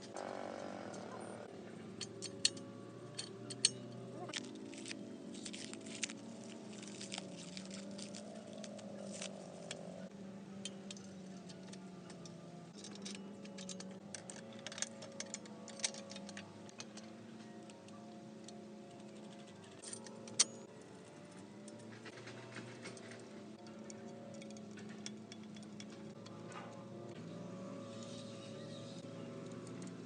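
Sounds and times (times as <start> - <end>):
soft background music: 0.0 - 30.0.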